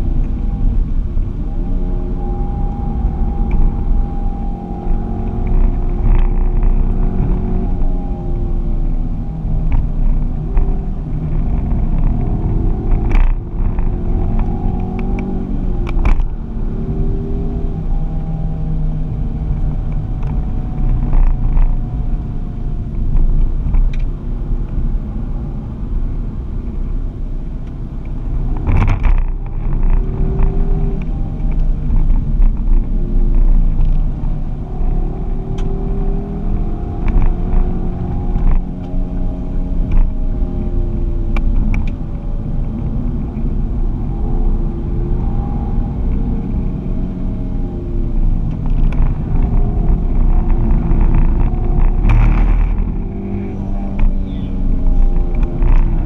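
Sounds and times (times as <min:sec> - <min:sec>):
car engine rumble: 0:00.0 - 0:56.0.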